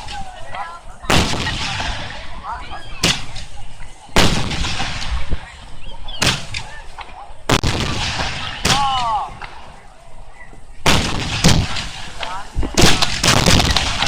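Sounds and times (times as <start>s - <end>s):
firework shells bursting: 0.0s - 2.4s, 3.0s - 9.9s, 10.8s - 14.0s
spectators' voices: 0.0s - 14.0s.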